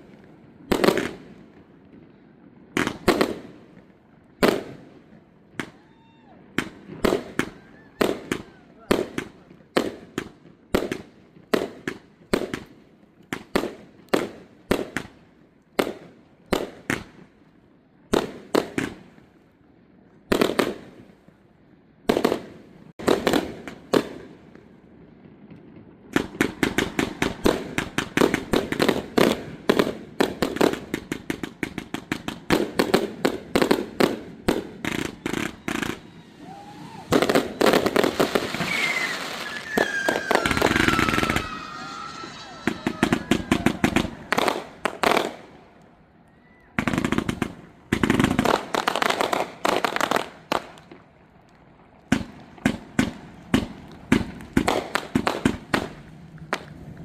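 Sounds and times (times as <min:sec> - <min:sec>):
fireworks bangs: 0:00.0 - 0:17.4, 0:18.1 - 0:19.4, 0:20.3 - 0:21.4, 0:22.0 - 0:57.0.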